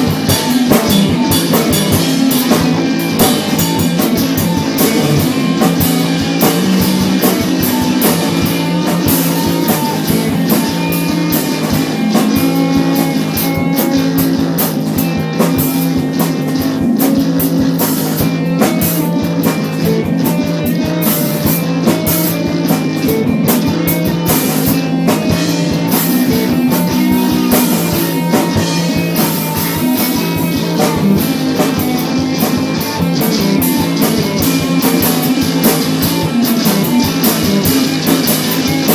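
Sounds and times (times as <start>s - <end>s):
drum kit steady beat: 0.0s - 38.9s
electric guitar: 0.0s - 38.9s
rock band playing: 0.0s - 38.9s.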